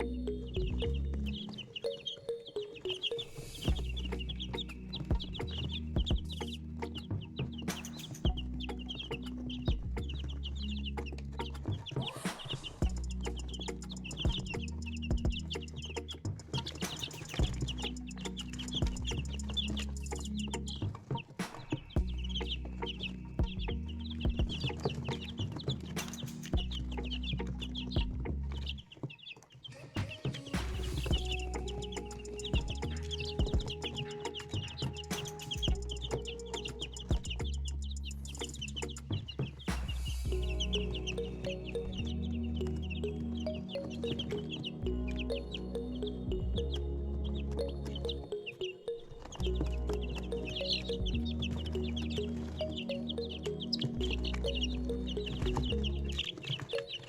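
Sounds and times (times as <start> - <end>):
steady low tones: 0.0 - 21.0, 30.7 - 48.4, 49.4 - 56.5.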